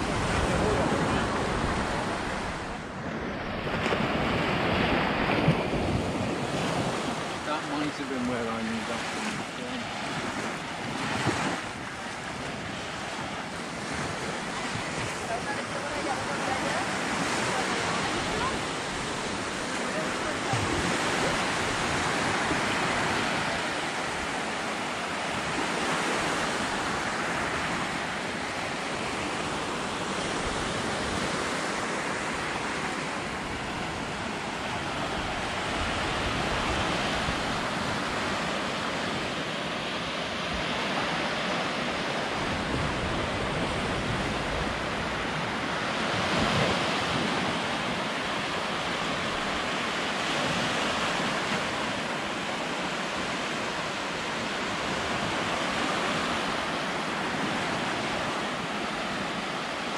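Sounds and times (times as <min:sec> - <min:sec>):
waves washing up a beach: 0:00.0 - 0:59.9.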